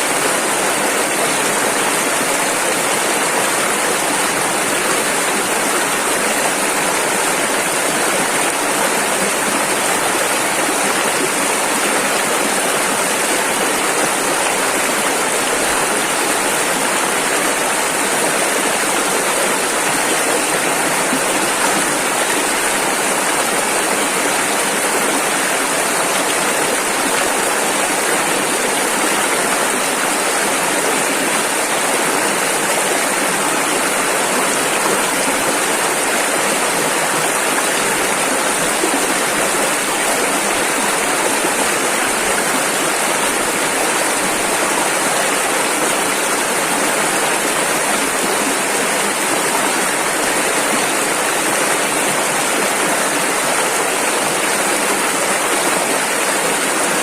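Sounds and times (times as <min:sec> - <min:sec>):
rushing river rapids: 0:00.0 - 0:57.0.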